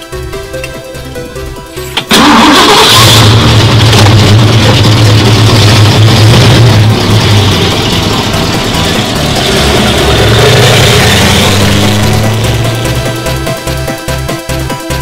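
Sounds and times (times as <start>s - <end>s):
car engine starting and running: 0.0s - 15.0s.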